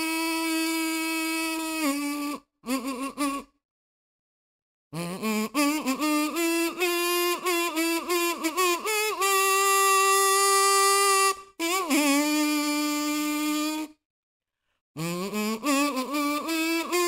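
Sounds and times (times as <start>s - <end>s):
kazoo melody: 0.0s - 3.5s, 5.0s - 14.0s, 15.0s - 17.0s.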